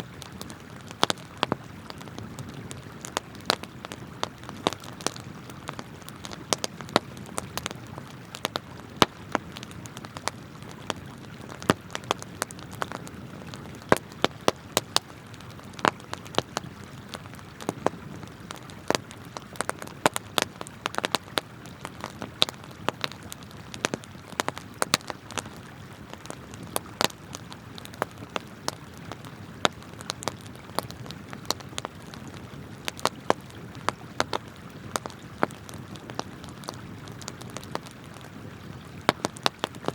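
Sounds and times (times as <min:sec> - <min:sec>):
campfire crackling and popping: 0:00.0 - 0:39.9
river water flowing: 0:00.0 - 0:39.9.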